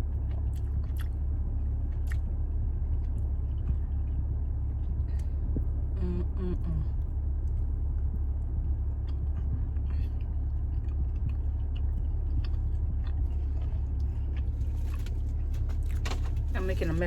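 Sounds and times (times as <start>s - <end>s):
person chewing food: 0.0s - 6.1s, 7.0s - 16.5s
low rumble: 0.0s - 17.0s.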